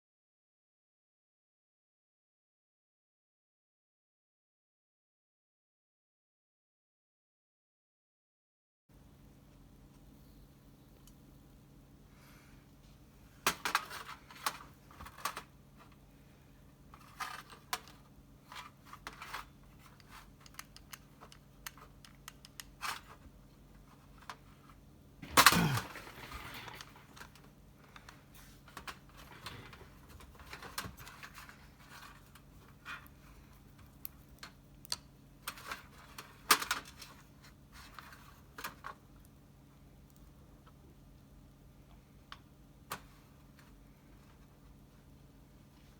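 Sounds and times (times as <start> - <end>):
faint low hum: 8.9 - 45.9.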